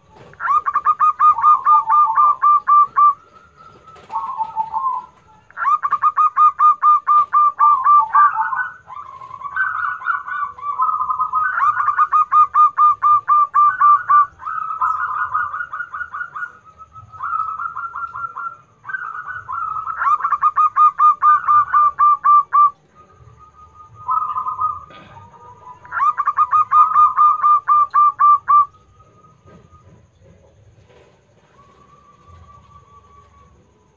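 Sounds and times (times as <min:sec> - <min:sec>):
doves cooing: 0:00.0 - 0:33.9.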